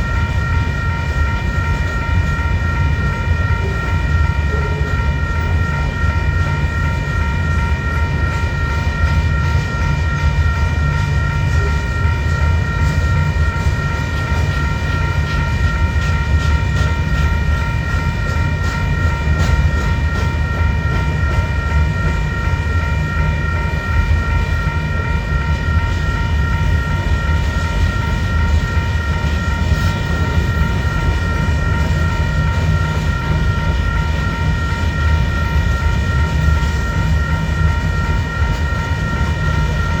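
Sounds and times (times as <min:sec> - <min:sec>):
steady high-pitched tones: 0:00.0 - 0:40.0
train rolling past: 0:00.0 - 0:40.0.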